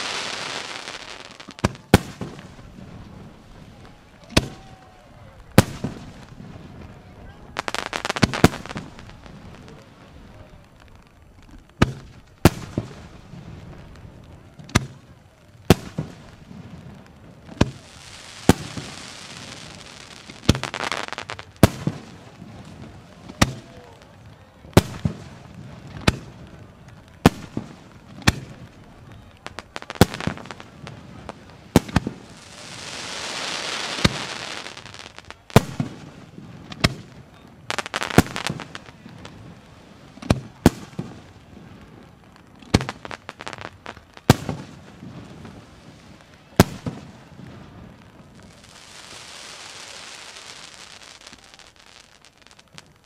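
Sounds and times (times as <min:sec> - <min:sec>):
firework hissing: 0:00.0 - 0:10.5, 0:15.7 - 0:23.8, 0:27.2 - 0:42.0, 0:42.6 - 0:53.0.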